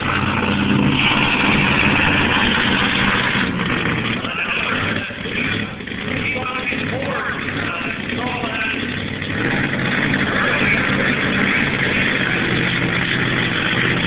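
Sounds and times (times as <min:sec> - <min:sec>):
truck engine running at high revs: 0:00.0 - 0:14.0.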